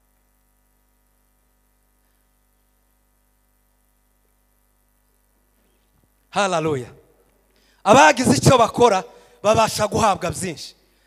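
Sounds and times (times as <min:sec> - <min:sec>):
faint electrical mains hum: 0:00.0 - 0:11.0.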